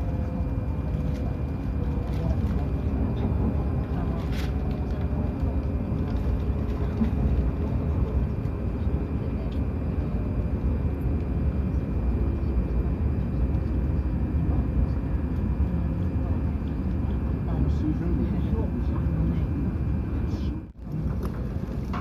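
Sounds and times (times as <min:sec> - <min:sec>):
faint steady whine: 0:00.0 - 0:22.0
train low rumble and hum: 0:00.0 - 0:22.0.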